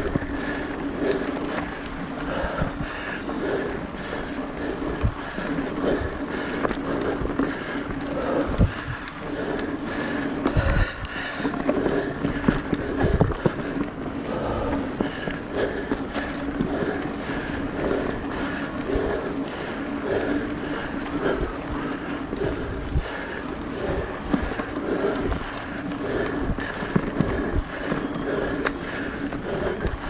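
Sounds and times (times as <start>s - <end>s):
bike rattling: 0.0s - 30.0s
bike tyre noise on dirt: 0.0s - 30.0s.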